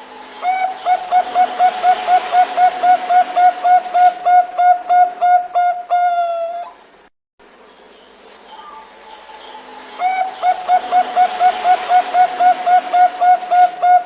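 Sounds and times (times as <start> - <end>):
dove cooing: 0.0 - 6.8, 8.6 - 14.0.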